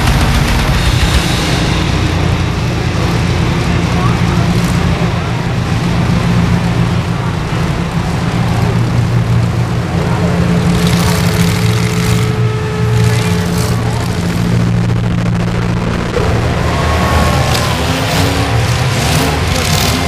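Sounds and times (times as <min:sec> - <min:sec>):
car engines running loudly: 0:00.0 - 0:20.0
sharp hits: 0:00.0 - 0:20.0.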